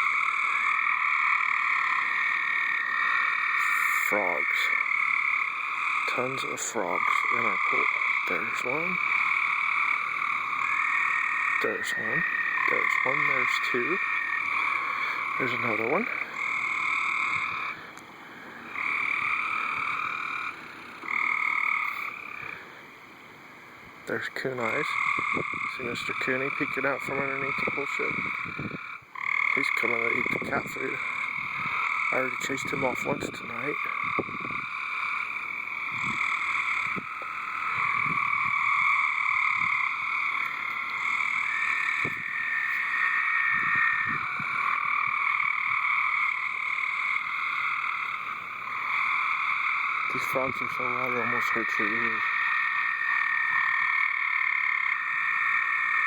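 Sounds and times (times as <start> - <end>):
frogs trilling: 0.0 - 56.0.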